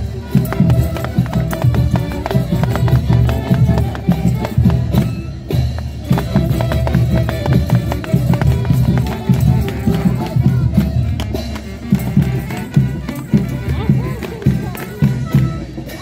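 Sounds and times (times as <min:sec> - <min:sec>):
folk dance band music: 0:00.0 - 0:16.0.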